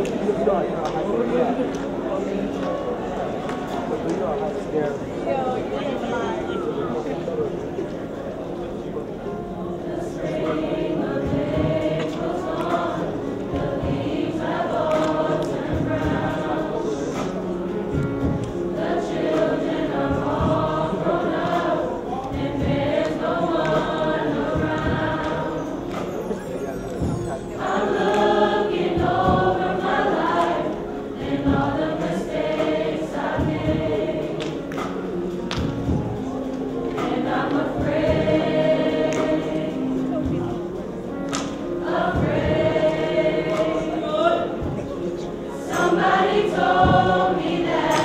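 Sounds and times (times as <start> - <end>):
choir singing long notes: 0.0 - 48.0.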